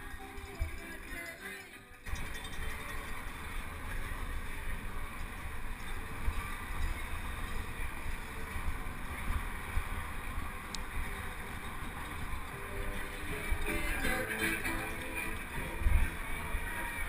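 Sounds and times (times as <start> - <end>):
wind buffeting microphone: 2.1 - 17.0.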